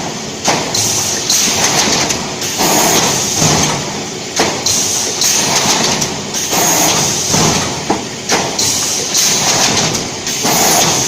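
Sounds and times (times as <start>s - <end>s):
welding machine clattering and clicking: 0.4s - 11.0s.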